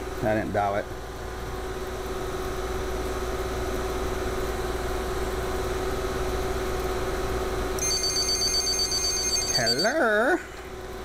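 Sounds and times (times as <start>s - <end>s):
fan and compressor unit humming: 0.0s - 11.0s.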